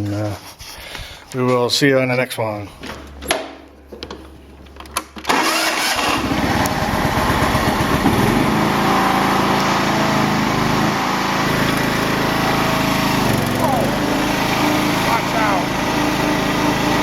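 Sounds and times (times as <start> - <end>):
lawn tractor engine running: 2.8 - 17.0.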